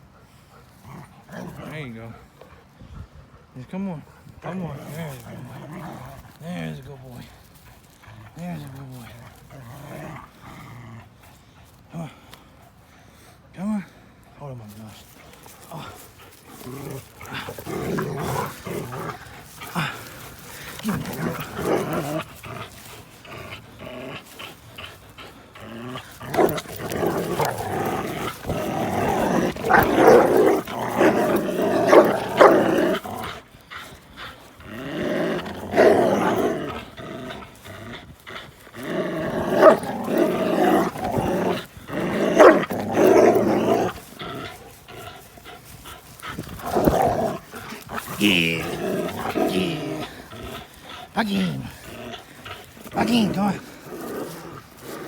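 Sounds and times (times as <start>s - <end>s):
dogs growling in play: 0.0s - 3.4s, 4.2s - 13.3s, 15.0s - 55.0s.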